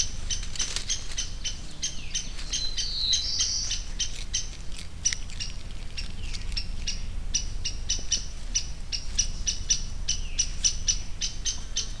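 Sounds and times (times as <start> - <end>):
small animal chip calls: 0.0 - 12.0
steady low rumble: 0.0 - 12.0.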